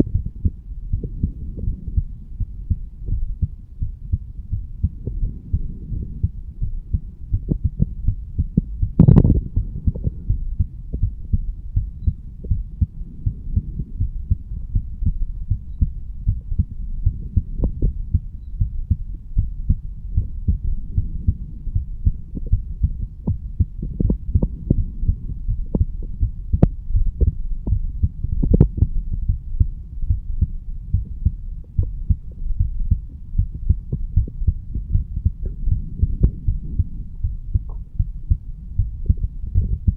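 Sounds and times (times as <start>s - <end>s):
muffled heartbeat: 0.0s - 39.9s.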